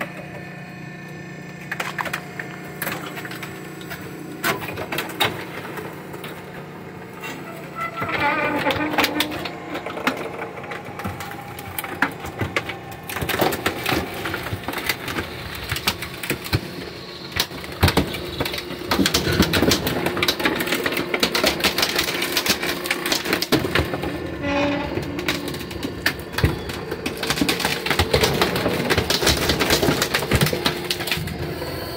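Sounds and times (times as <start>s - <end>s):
compactor machine hum: 0.0s - 31.9s
wood cracking and splintering: 1.7s - 31.4s.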